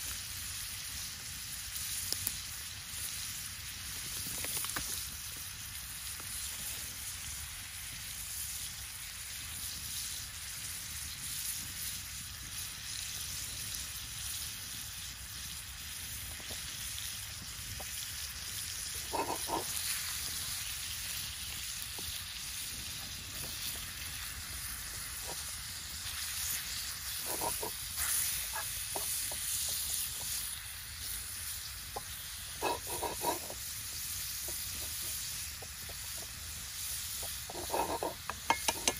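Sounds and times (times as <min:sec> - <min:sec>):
meat sizzling in skillet: 0:00.0 - 0:38.9.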